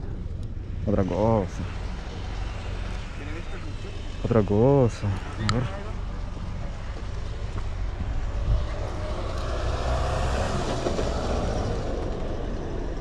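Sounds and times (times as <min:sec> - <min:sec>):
steady low rumble: 0:00.0 - 0:13.0
vehicle passing by: 0:00.8 - 0:13.0.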